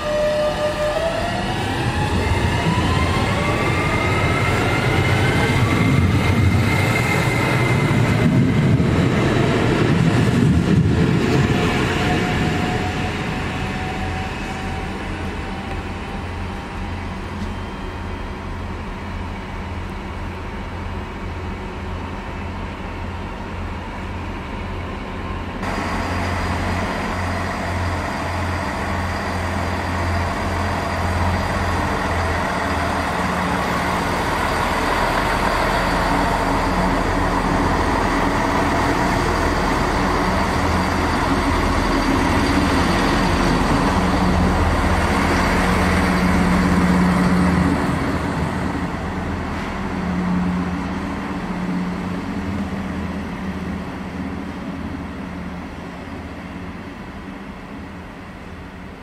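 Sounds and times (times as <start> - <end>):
train low throbbing hum: 0.0 - 59.0
train running rush with tones: 0.0 - 59.0.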